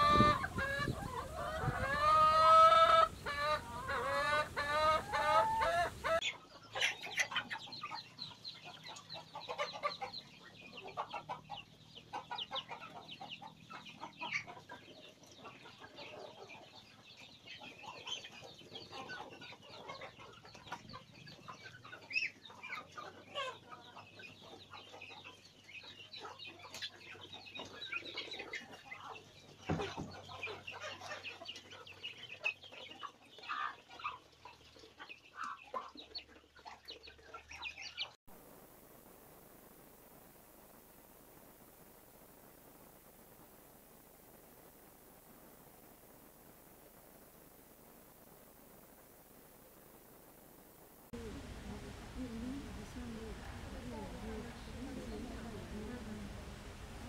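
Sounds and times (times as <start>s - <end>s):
chickens clucking and calling: 0.0s - 38.6s, 39.2s - 57.0s.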